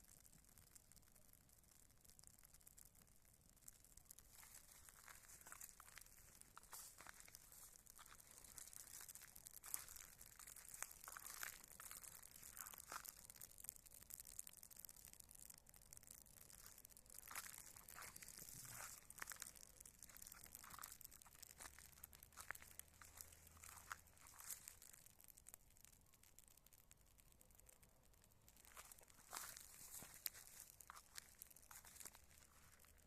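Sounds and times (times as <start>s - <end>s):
fire popping: 0.0s - 33.0s
wood fire crackling: 0.0s - 33.0s.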